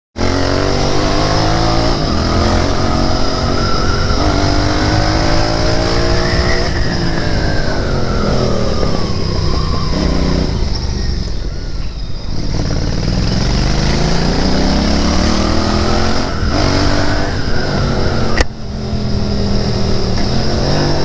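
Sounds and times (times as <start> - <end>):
motorcycle engine running: 0.2 - 21.0.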